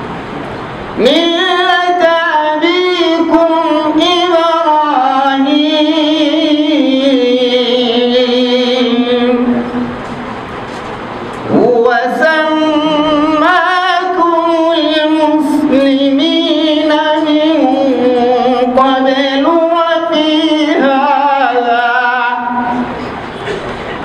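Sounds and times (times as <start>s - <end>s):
man chanting melodically: 1.0s - 9.9s, 11.5s - 23.1s.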